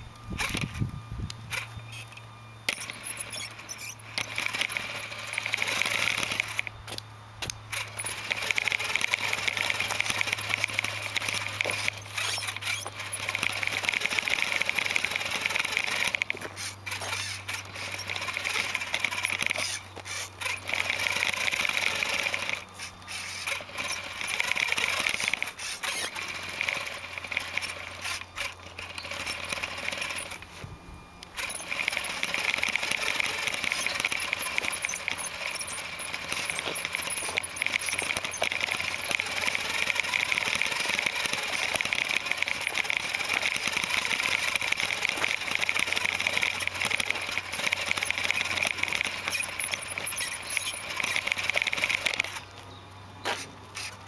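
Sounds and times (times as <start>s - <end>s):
toy electric motor whining: 0.0s - 54.0s.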